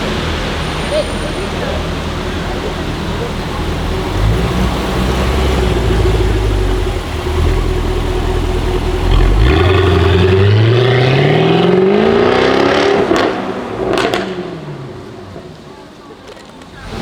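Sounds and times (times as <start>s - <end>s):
car engine accelerating: 0.0s - 17.0s
exhaust crackles: 0.0s - 17.0s.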